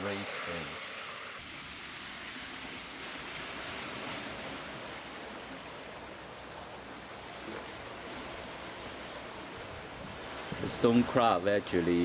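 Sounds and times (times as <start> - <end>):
sea water washing on rocks: 0.0 - 12.0.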